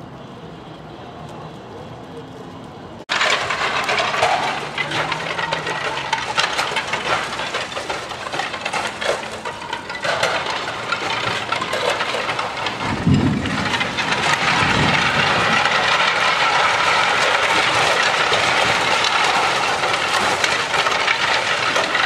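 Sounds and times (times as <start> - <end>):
roof tiles clattering and cracking: 3.1 - 22.0.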